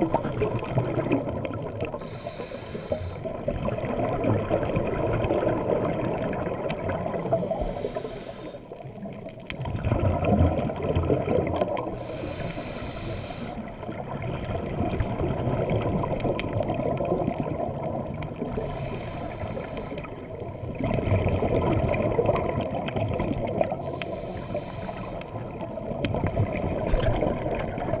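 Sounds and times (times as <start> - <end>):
underwater churning rumble: 0.0 - 28.0.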